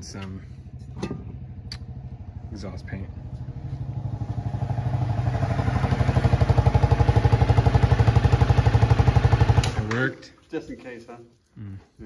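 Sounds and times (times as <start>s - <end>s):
motorcycle engine puttering: 0.0s - 10.0s.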